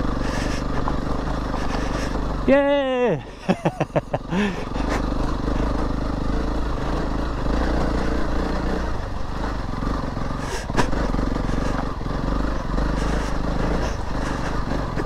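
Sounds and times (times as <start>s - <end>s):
motorcycle engine chugging: 0.0s - 15.0s.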